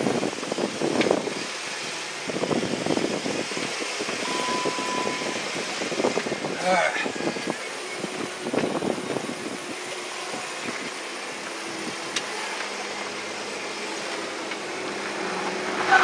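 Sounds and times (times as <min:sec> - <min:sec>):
engine running at low speed: 0:00.0 - 0:16.0
tyre and road noise: 0:00.0 - 0:16.0.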